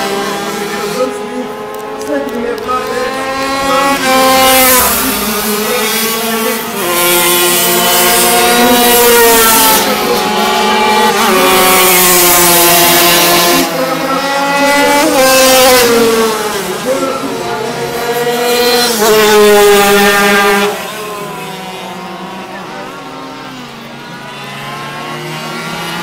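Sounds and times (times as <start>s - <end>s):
racing motorcycles passing at high revs: 0.0s - 26.0s.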